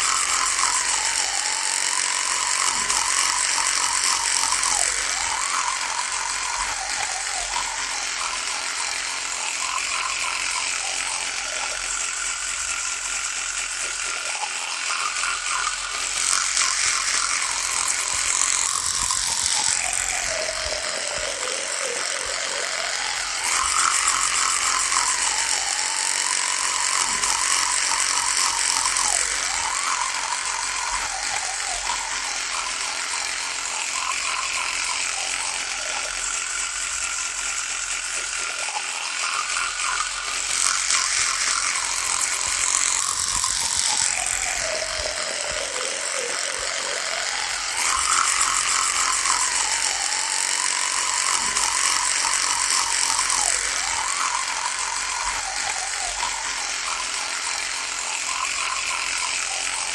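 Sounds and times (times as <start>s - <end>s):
electric toothbrush buzzing: 0.0s - 59.9s.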